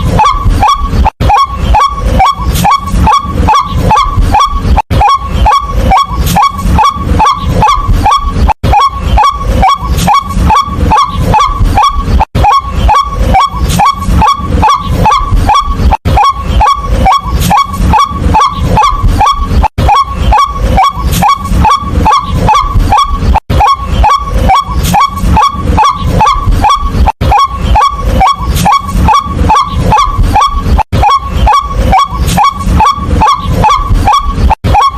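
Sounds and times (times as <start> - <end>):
waterhen calling harsh repeated notes: 0.0 - 34.9.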